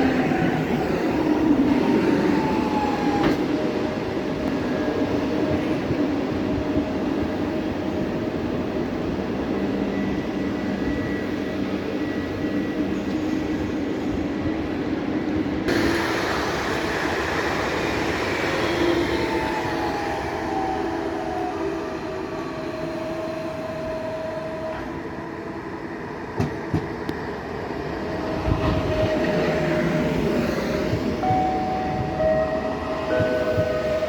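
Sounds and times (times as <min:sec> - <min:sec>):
train running on tracks: 0:00.0 - 0:34.0.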